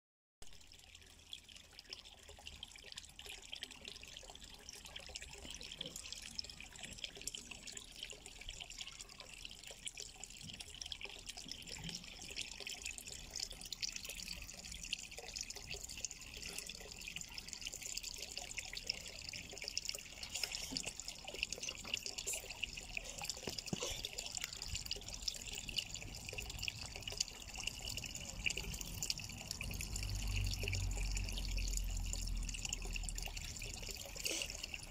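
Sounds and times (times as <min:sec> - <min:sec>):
water trickling into pond: 0:00.4 - 0:34.9.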